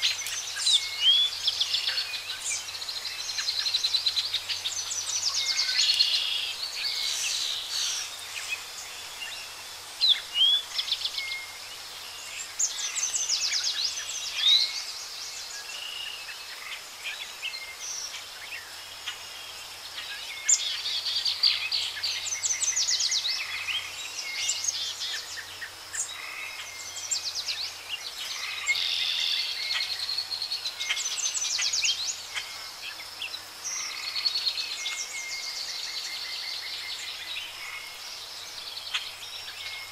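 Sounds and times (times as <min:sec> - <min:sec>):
songbirds singing and chirping: 0:00.0 - 0:39.9
steady outdoor hiss: 0:00.0 - 0:39.9.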